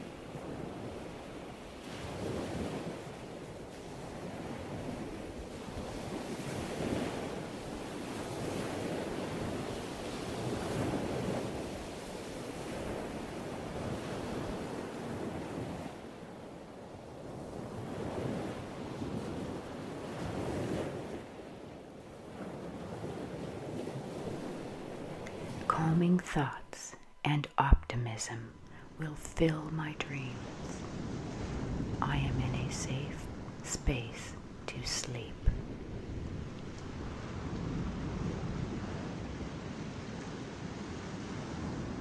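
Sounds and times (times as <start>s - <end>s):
waves breaking: 0.0s - 42.0s.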